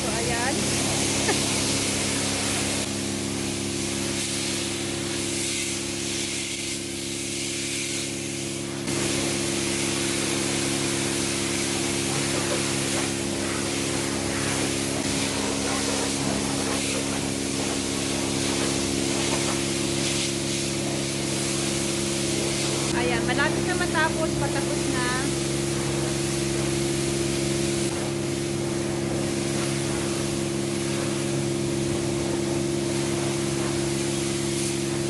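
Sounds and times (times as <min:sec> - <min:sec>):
pressure washer spraying water: 0:00.0 - 0:35.0
wash pump drone: 0:00.0 - 0:35.0.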